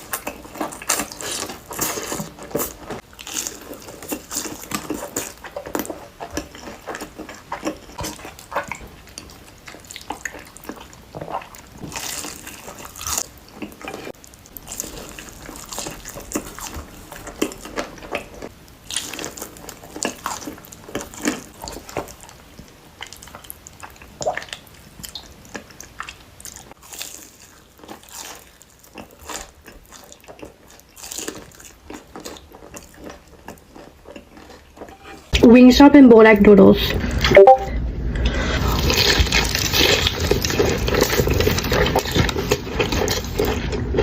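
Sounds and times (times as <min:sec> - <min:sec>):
person chewing crispy food: 0:00.0 - 0:35.4, 0:38.6 - 0:44.0.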